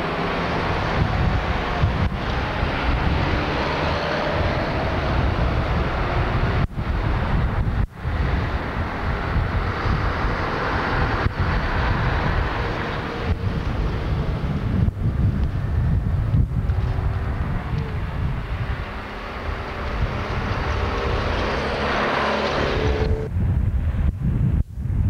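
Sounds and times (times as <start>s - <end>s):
street traffic passing: 0.0s - 24.1s
wind on microphone: 0.0s - 25.0s.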